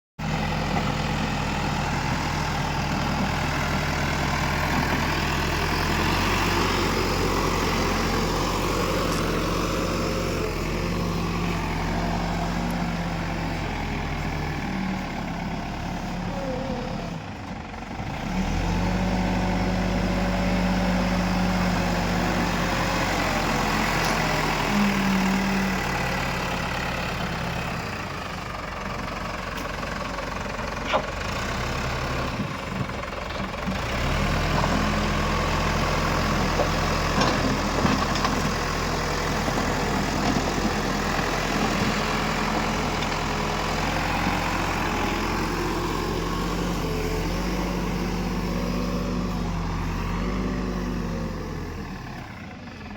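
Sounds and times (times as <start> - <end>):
diesel engine running: 0.2 - 52.9.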